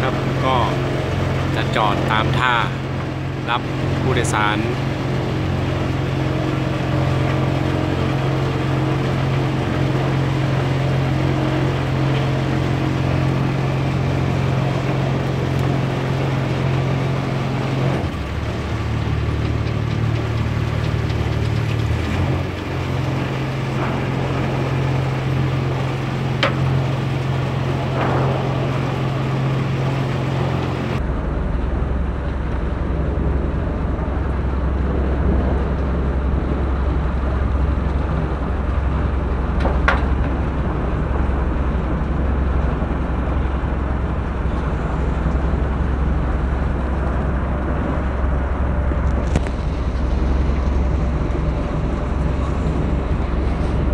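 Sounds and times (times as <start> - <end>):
boat engine drone: 0.0 - 53.9
rushing water: 0.0 - 53.9
wind: 0.0 - 53.9.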